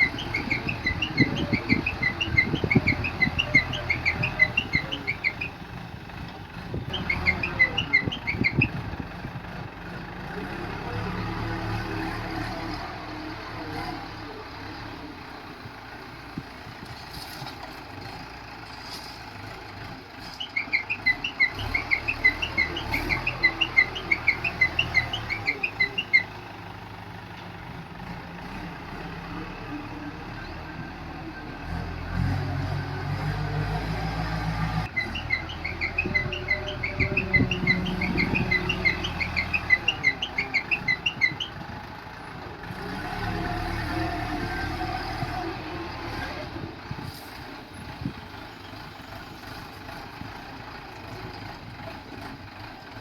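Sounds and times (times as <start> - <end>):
backhoe diesel engine running: 0.0 - 53.0.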